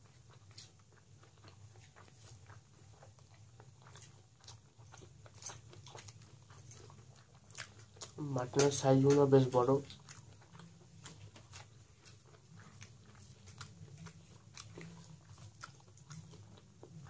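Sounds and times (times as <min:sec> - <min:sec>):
faint low hum: 0:00.0 - 0:17.0
person chewing: 0:00.0 - 0:17.0.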